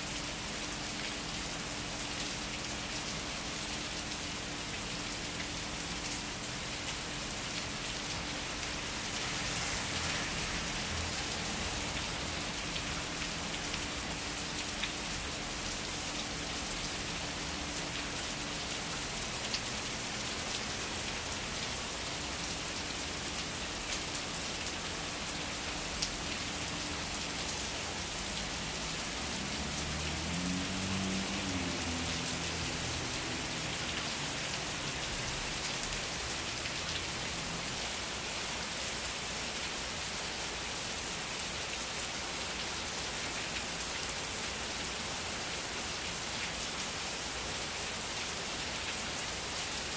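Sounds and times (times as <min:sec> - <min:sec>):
heavy rain on street: 0:00.0 - 0:49.9.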